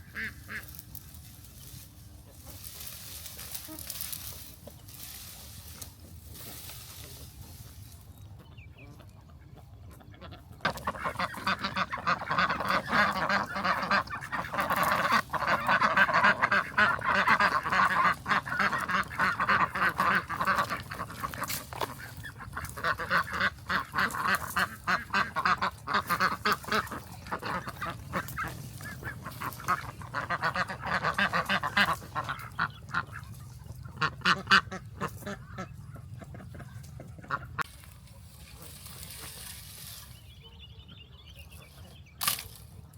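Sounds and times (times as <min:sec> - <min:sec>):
flock of ducks calling: 0:00.0 - 0:04.4, 0:06.4 - 0:40.2.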